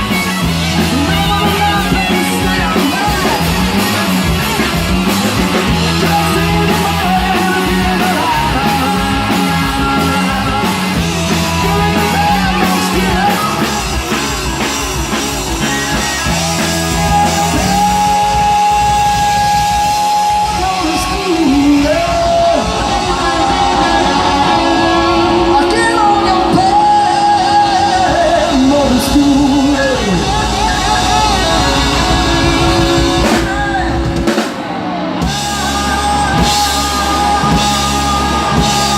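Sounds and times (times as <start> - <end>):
person singing: 0.0 - 34.6, 35.2 - 38.9
electric guitar sliding notes: 0.0 - 38.9
rock band playing: 0.0 - 38.9.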